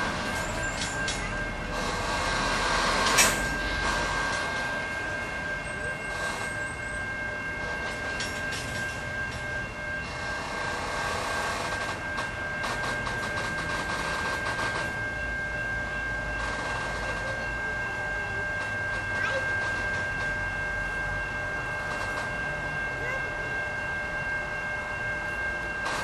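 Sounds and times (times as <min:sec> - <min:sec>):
steady high whine: 0:00.0 - 0:26.0.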